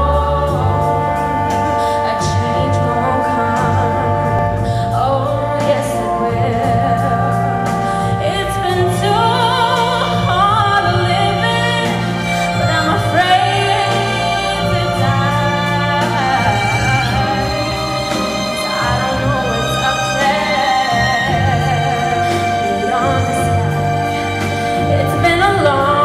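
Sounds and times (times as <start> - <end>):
sustained backing chords: 0.0 - 26.0
woman singing with vibrato: 0.0 - 26.0.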